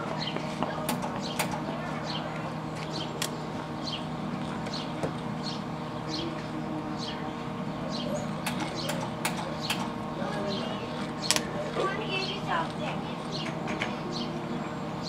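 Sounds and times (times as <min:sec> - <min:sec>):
bird chirping: 0:00.0 - 0:15.0
low electrical hum: 0:00.0 - 0:15.0.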